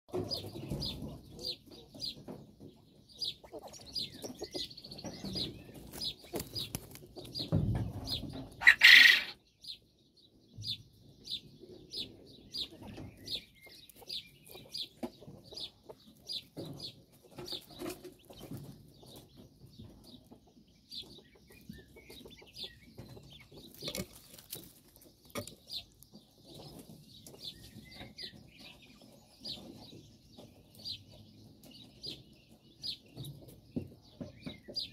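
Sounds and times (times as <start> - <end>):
quail peeping: 0.1 - 34.9.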